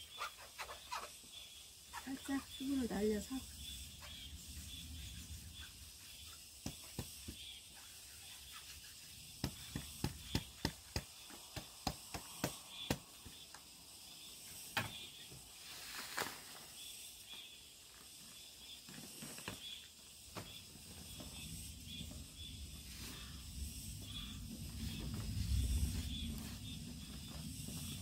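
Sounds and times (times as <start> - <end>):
soft rustle of starch and cloth: 2.0 - 12.8, 15.4 - 28.0.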